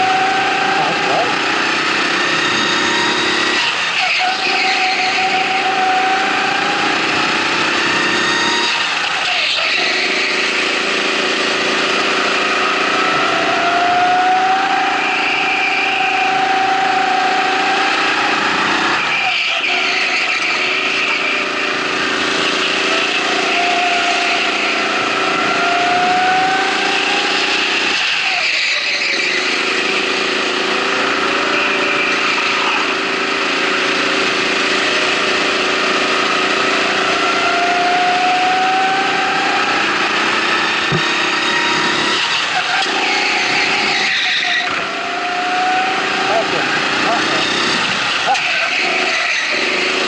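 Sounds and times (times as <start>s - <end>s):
go-kart engine revving: 0.0s - 50.0s.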